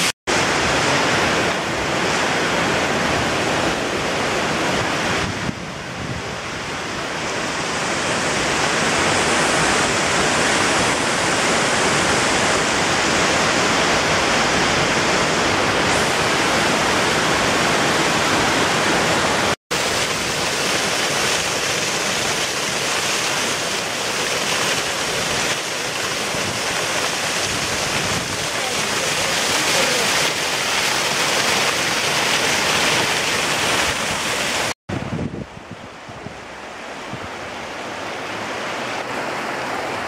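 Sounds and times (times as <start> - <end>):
stream rushing over rocks: 0.0 - 40.0.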